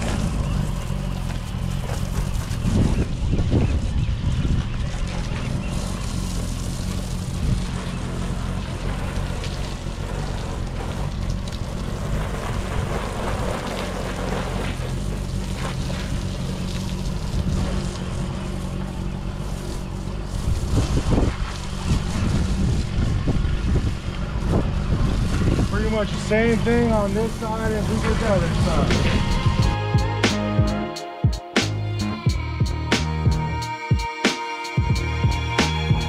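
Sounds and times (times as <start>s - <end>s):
engine droning: 0.0s - 36.0s
hose spraying water: 0.0s - 36.0s.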